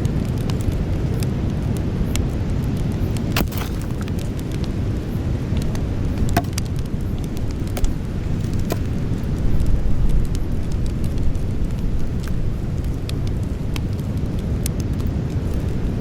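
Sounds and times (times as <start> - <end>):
crackles and pops of burning wood: 0.0 - 16.0
low rumble of flames: 0.0 - 16.0.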